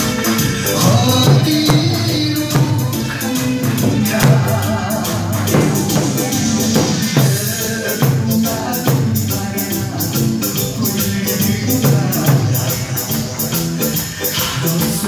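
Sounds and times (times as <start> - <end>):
drums beaten rapidly: 0.0 - 15.0
recorded backing music: 0.0 - 15.0.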